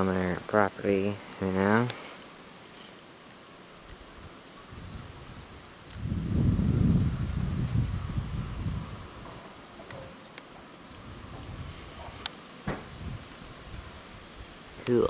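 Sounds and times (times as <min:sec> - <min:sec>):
insects chirring in grass: 0:00.0 - 0:15.0.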